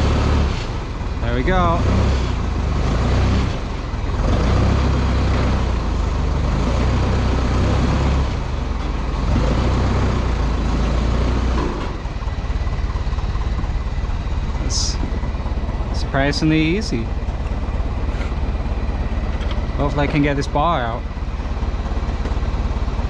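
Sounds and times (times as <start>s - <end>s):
forklift engine running under load: 0.0s - 23.0s.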